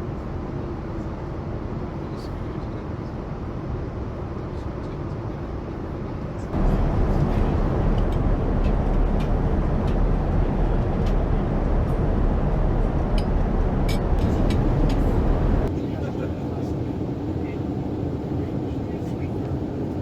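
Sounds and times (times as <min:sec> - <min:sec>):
jet airliner cabin noise: 0:00.0 - 0:20.0.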